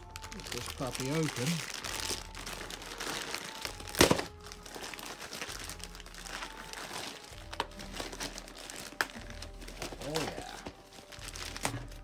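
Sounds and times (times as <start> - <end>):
faint background music: 0.0 - 12.0
packaging crinkling: 0.0 - 12.0.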